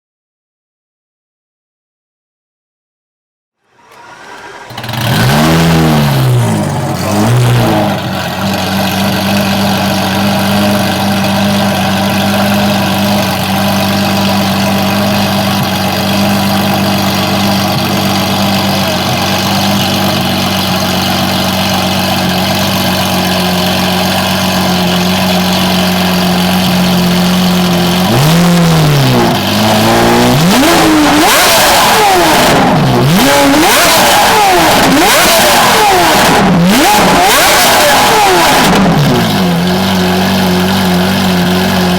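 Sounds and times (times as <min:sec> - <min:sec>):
car engine revving and idling: 0:03.6 - 0:41.9.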